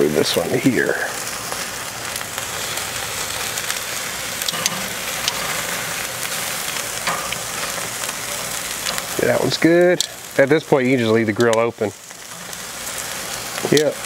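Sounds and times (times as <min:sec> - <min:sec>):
fat crackling and popping: 0:00.0 - 0:14.0
meat sizzling over charcoal: 0:00.0 - 0:14.0.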